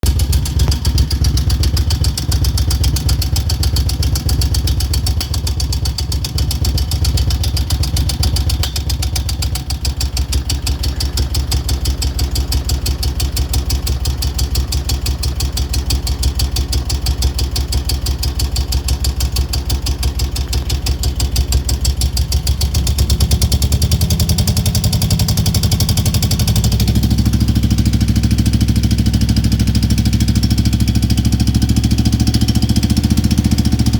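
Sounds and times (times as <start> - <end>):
fast even ticking: 0.0 - 33.2
motorcycle engine idling: 0.0 - 33.9.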